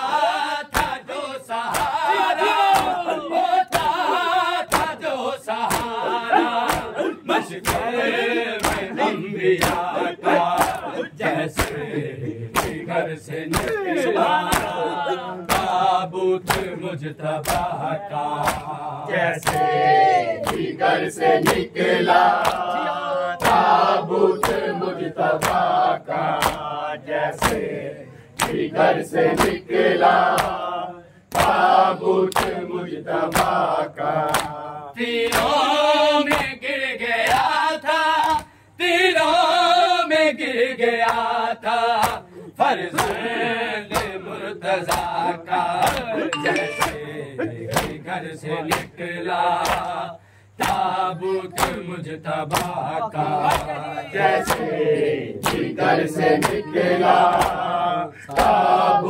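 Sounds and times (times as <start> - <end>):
rhythmic chest slapping: 0.0 - 38.6, 40.4 - 46.2, 46.8 - 59.0
men chanting in chorus: 0.0 - 46.4, 47.1 - 59.0.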